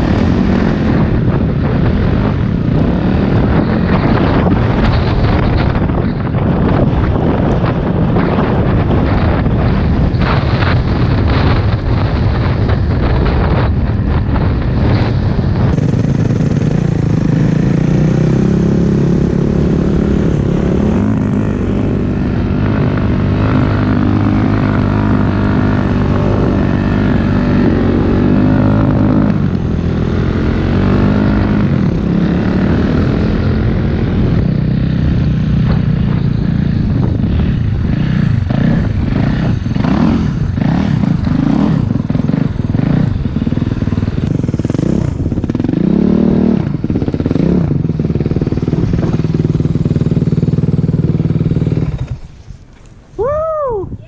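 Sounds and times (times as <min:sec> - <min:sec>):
dirt bike engine running: 0:00.0 - 0:53.1.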